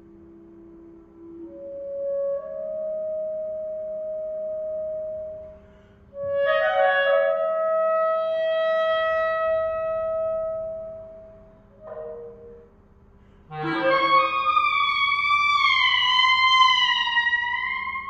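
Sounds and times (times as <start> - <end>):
solo clarinet playing: 0.0 - 12.7, 13.5 - 18.0.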